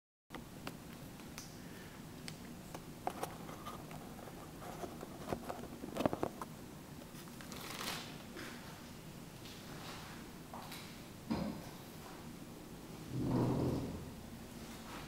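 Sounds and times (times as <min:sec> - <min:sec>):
faint room noise: 0:00.3 - 0:15.0.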